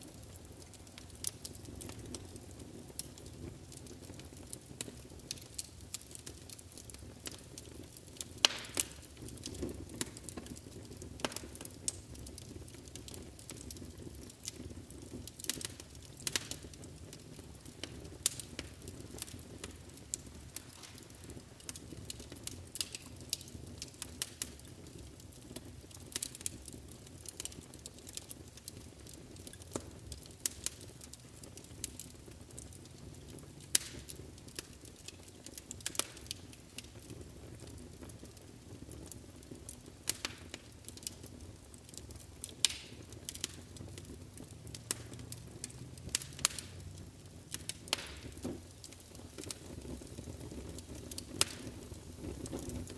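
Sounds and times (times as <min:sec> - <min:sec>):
fire crackling and popping: 0:00.0 - 0:52.9
low rumble of flames: 0:00.0 - 0:52.9.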